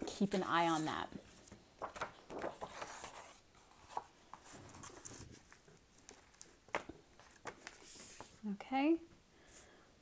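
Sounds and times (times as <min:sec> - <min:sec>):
paper sheets rustling: 0:00.0 - 0:08.4.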